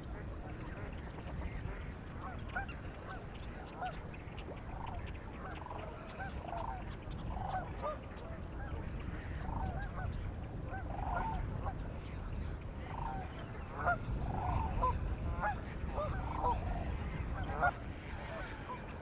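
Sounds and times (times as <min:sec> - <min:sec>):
geese honking: 0:00.0 - 0:19.0
low steady rumble: 0:00.0 - 0:19.0.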